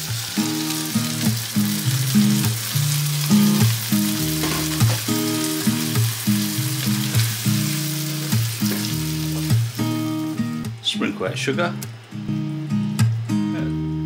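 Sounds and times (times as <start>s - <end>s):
food sizzling in a frying pan: 0.0s - 11.3s
background music: 0.0s - 14.0s.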